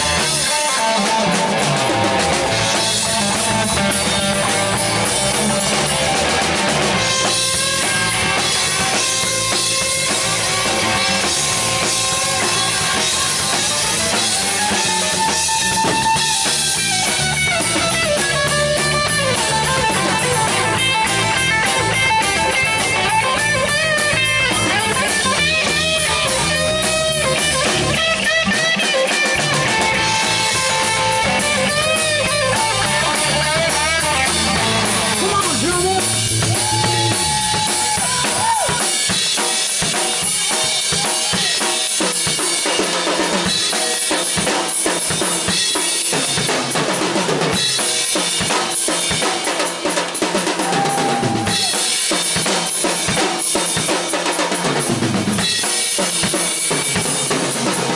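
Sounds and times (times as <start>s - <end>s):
electric guitar lead: 0.0s - 49.5s, 50.4s - 57.9s
bass guitar: 0.0s - 57.9s
drum kit: 0.0s - 57.9s.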